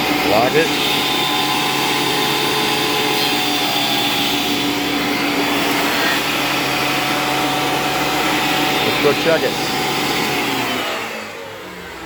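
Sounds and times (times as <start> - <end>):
thickness planer motor whine: 0.0 - 12.0.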